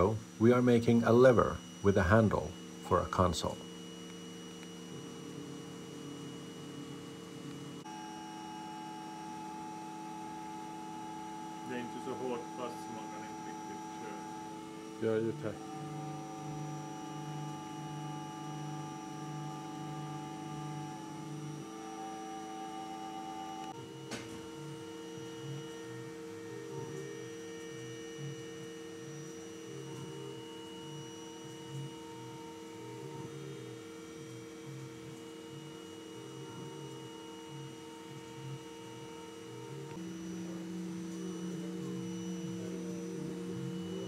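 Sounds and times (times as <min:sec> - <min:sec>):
mill motor whine: 0:00.0 - 0:44.0
motor tones switching pitch: 0:00.0 - 0:44.0.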